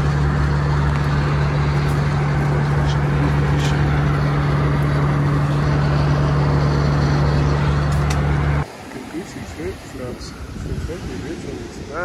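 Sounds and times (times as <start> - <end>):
low hum: 0.0 - 11.9
airliner cabin drone: 0.0 - 12.0.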